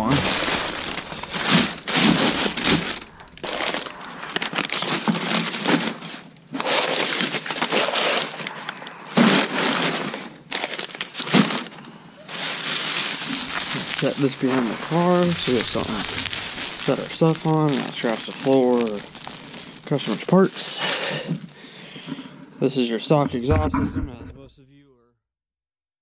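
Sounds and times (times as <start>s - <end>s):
packing paper crinkling: 0.0s - 21.2s.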